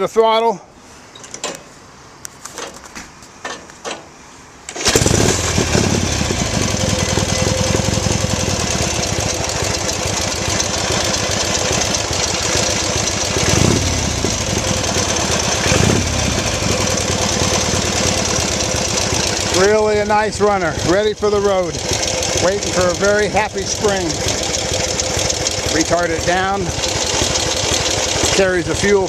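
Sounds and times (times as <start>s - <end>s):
motorcycle engine running: 4.8s - 29.0s.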